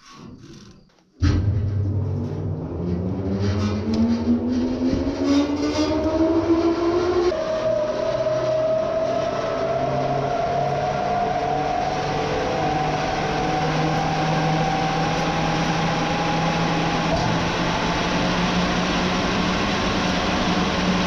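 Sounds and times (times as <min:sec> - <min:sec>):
vehicle engine running under load: 0:01.2 - 0:21.0.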